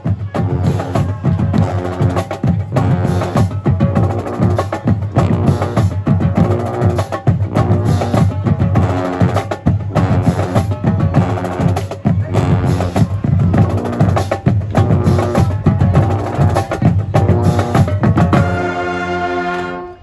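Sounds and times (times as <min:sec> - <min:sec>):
snare and bass drums beat: 0:00.0 - 0:18.8.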